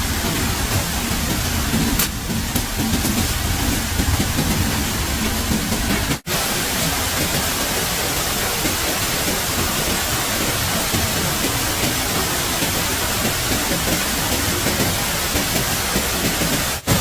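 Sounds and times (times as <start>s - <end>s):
water rushing hiss: 0.0s - 17.0s.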